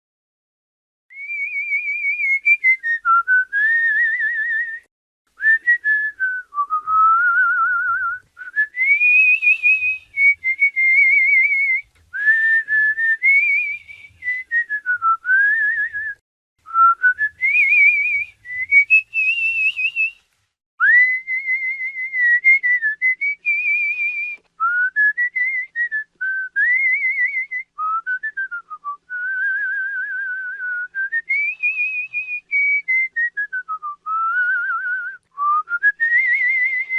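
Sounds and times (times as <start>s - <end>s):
person whistling a melody: 1.1s - 20.2s, 20.8s - 36.9s.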